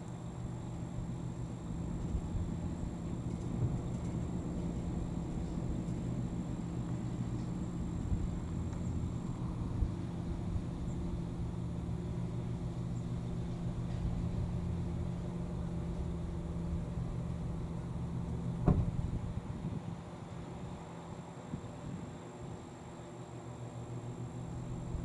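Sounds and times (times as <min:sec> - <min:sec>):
engine idling hum: 0:00.0 - 0:25.0.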